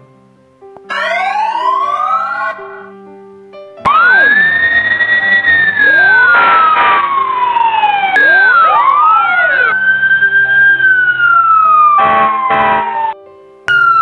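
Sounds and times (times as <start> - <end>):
emergency siren wailing: 0.9 - 3.0, 3.9 - 14.0.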